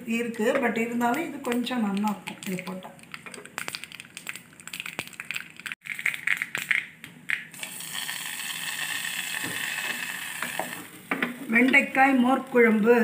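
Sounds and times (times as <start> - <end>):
seeds crackling in hot oil: 1.0 - 13.0
steady sizzle: 1.1 - 6.9, 7.5 - 13.0.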